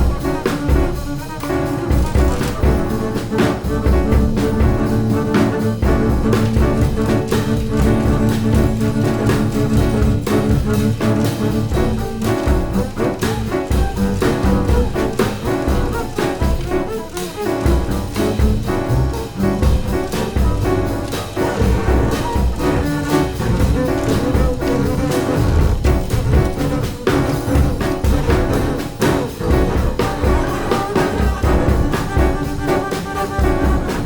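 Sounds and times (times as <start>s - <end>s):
double bass: 0.0s - 34.0s
drum and cymbal strokes: 0.0s - 34.0s
piano: 0.0s - 34.0s.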